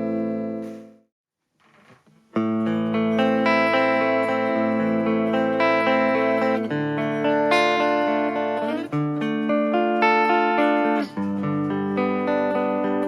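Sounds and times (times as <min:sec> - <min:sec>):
electric guitar chords ringing: 0:00.0 - 0:01.0, 0:02.4 - 0:13.0.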